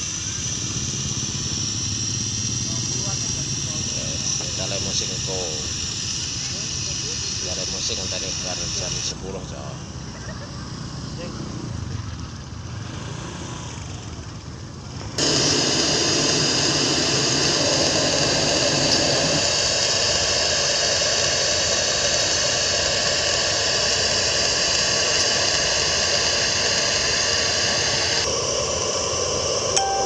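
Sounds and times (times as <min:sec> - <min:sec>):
loud steady hiss from speakers: 0:00.0 - 0:30.0.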